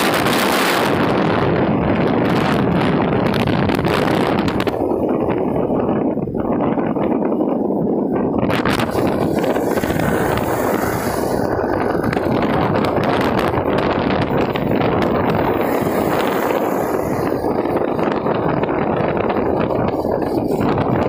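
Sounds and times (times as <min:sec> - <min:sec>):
road and vehicle noise: 0:00.0 - 0:21.0
wind on microphone: 0:00.0 - 0:21.0.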